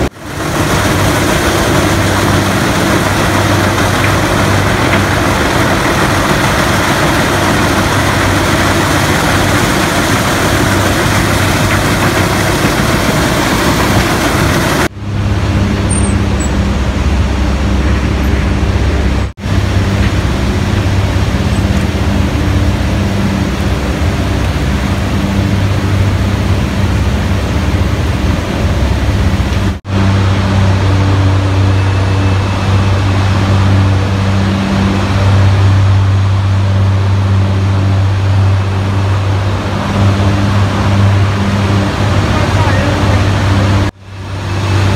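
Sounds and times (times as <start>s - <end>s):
machinery low drone: 0.0s - 44.9s
rushing machinery clatter: 0.0s - 44.9s.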